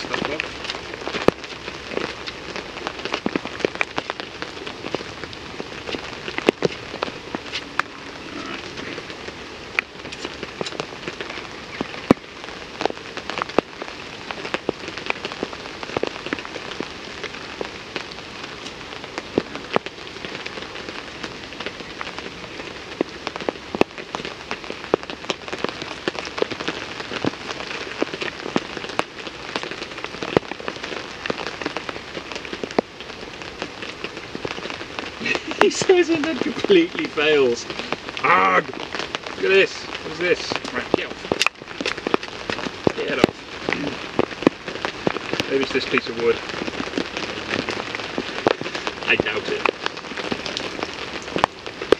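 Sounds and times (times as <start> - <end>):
heavy rain on a tarp: 0.0 - 51.9.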